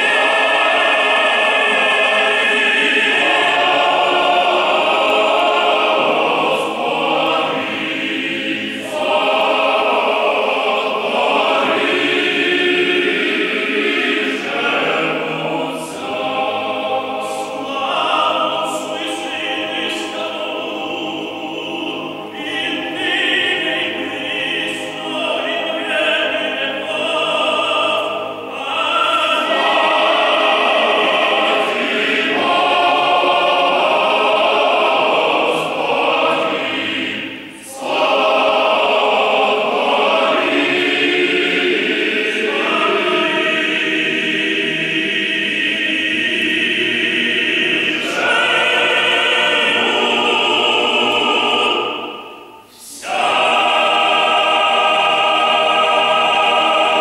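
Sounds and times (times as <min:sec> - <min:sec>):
male choir singing: 0:00.0 - 0:57.0.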